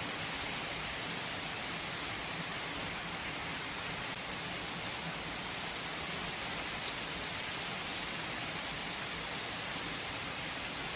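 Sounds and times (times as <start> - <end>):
raindrops pattering on a surface: 0.0 - 10.9
steady rain falling: 0.0 - 10.9.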